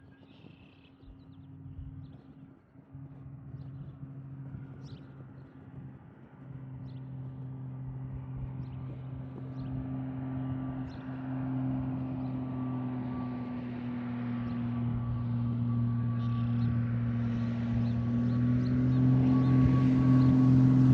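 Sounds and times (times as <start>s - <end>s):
propeller plane engine drone: 0.0s - 20.9s.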